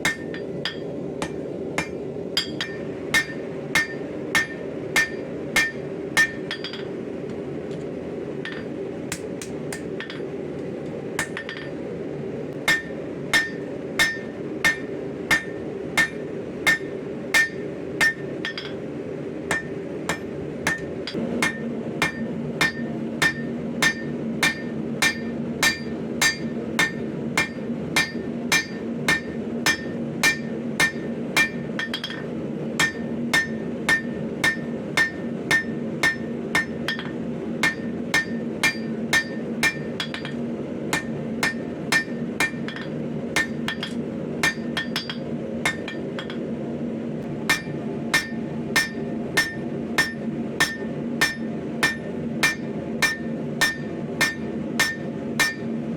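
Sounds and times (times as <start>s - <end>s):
hammer striking metal on anvil: 0.0s - 7.0s, 8.4s - 10.3s, 11.2s - 11.8s, 12.6s - 18.8s, 19.5s - 46.5s, 47.5s - 55.7s.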